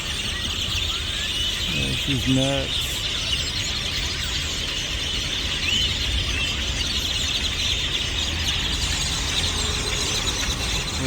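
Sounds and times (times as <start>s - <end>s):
flock of birds chattering: 0.0s - 11.0s.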